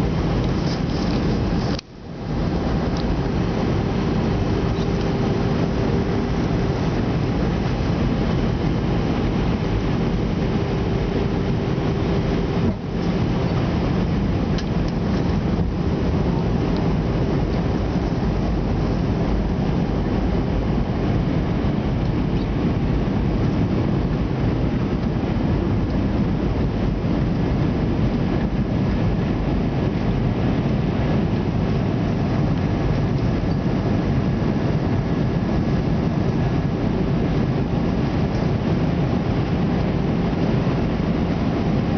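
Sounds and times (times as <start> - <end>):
airliner cabin roar: 0.0 - 41.9
faint steady hum: 0.0 - 41.9.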